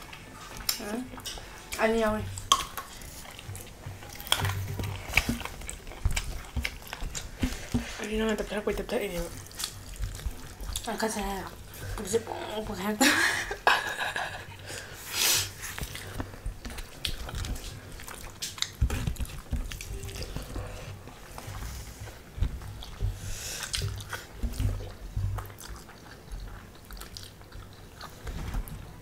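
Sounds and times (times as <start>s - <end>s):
people chewing and biting: 0.0s - 29.0s.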